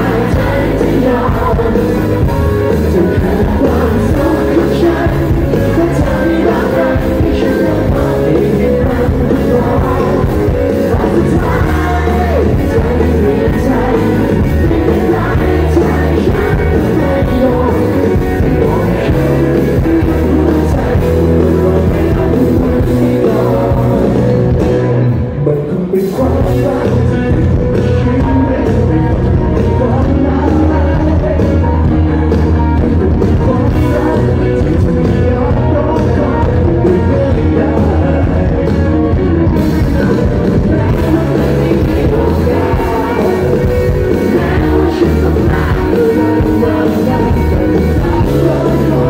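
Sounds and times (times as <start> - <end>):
live rock band: 0.0 - 49.0
man singing: 0.0 - 49.0.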